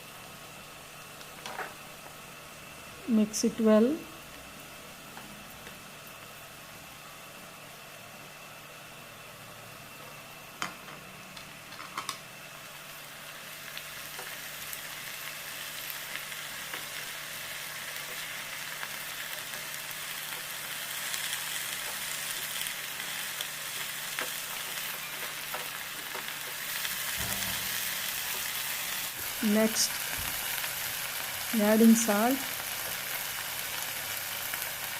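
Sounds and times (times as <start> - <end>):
vegetables sizzling in a pan: 0.0 - 34.9.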